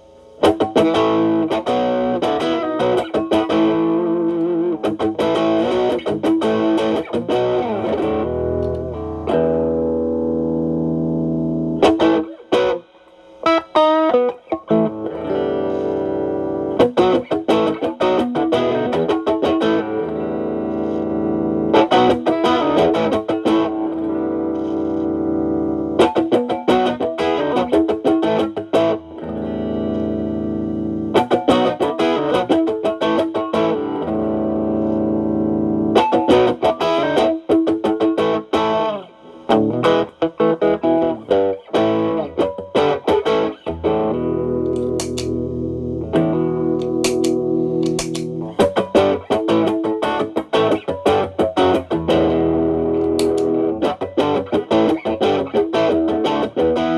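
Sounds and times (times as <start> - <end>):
overdriven electric guitar: 0.0 - 56.9.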